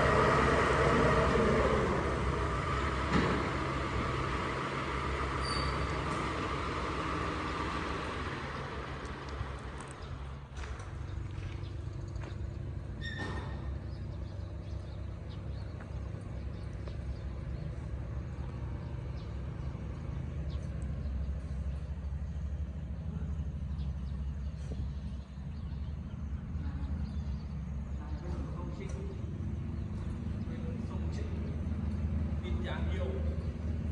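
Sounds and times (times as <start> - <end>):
diesel engine droning: 0.0 - 33.9.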